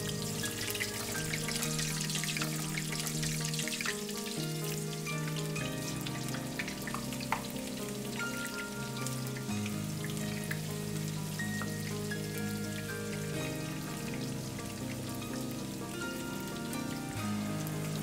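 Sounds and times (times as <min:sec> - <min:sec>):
background music: 0:00.0 - 0:18.0
food deep-frying in oil: 0:00.0 - 0:18.0.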